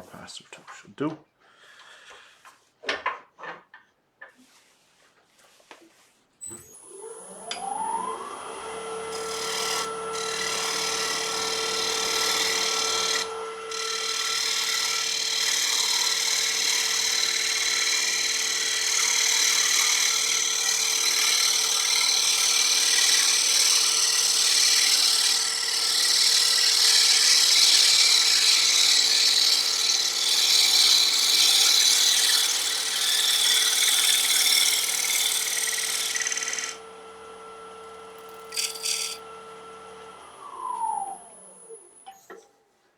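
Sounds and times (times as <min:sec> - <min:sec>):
lathe tool cutting wood: 0:06.6 - 0:42.0
wood lathe humming: 0:06.6 - 0:42.1.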